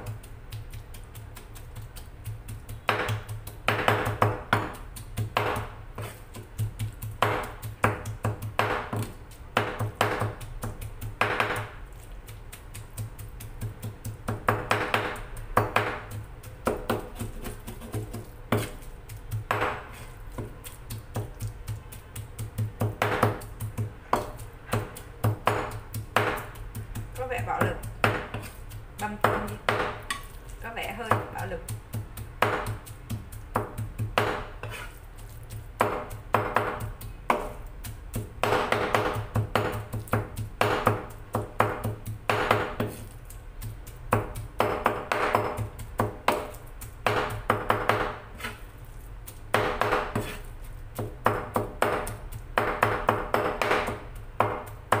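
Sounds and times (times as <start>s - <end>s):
knife chopping on cutting board: 0.0s - 55.0s.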